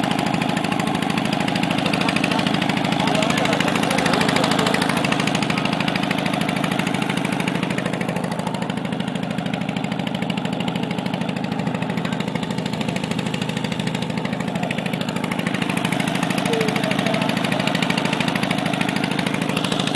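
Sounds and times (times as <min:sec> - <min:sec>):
small boat engine running: 0:00.0 - 0:19.9.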